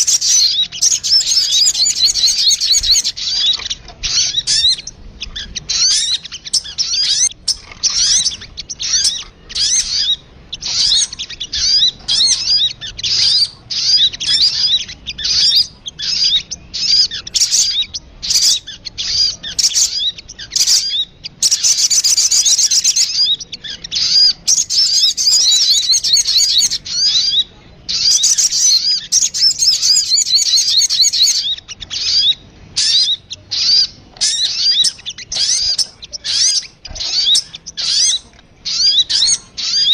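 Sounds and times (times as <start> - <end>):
high bird chirping and chattering: 0.0 - 39.9.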